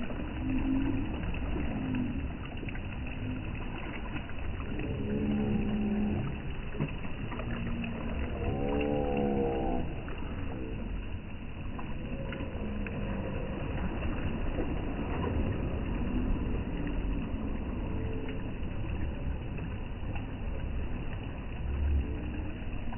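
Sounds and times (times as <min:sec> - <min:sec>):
waves lapping against stone: 0:00.0 - 0:22.9
wind rumbling on microphone: 0:00.0 - 0:22.9.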